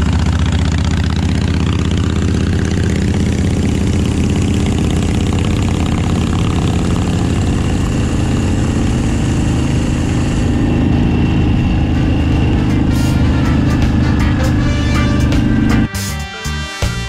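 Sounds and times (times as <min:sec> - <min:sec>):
motorcycle engine cruising: 0:00.0 - 0:17.0
road noise: 0:00.0 - 0:17.0.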